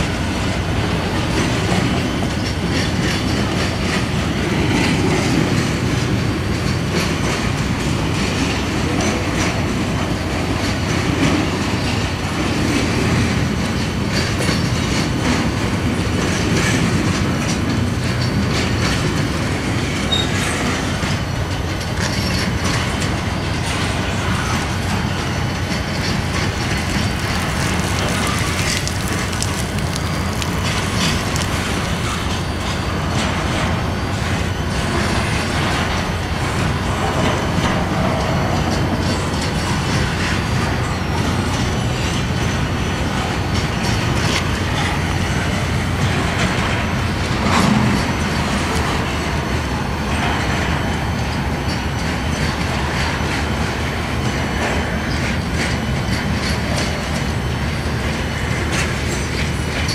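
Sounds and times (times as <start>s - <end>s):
train wheels rumbling on rail: 0.0s - 59.9s
wheels clicking over rail joints: 0.0s - 59.9s.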